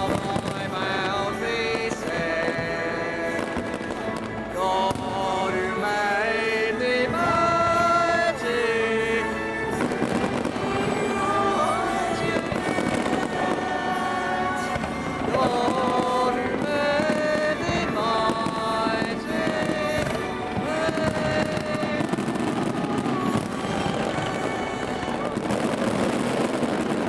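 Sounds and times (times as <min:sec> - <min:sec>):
fireworks crackling and banging: 0:00.0 - 0:27.0
music with long held notes: 0:00.0 - 0:27.0.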